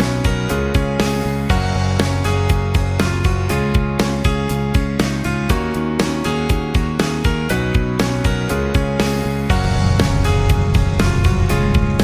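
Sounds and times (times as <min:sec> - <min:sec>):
background music with pulsing notes: 0:00.0 - 0:12.0.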